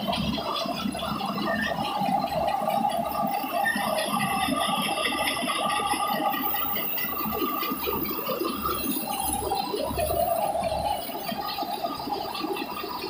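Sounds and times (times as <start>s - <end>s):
rice mill whirring rattle: 0.0s - 13.0s.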